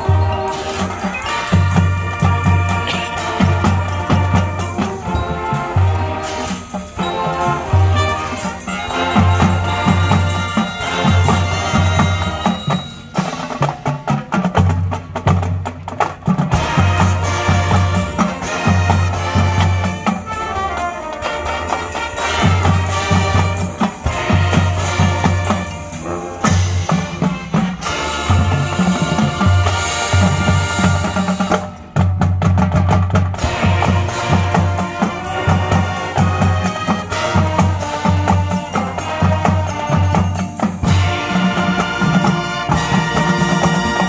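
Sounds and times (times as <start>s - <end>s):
marching band playing: 0.0s - 44.0s.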